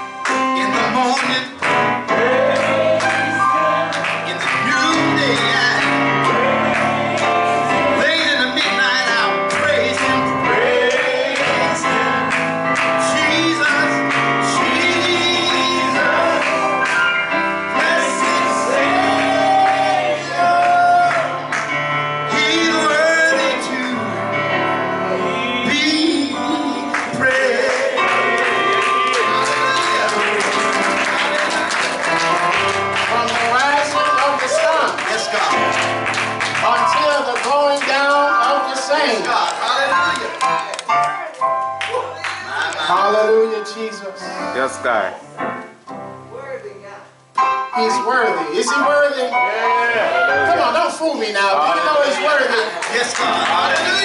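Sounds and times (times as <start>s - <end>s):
congregation singing: 0.0s - 41.0s, 47.8s - 54.0s
worship band playing: 0.0s - 46.4s, 47.0s - 54.0s.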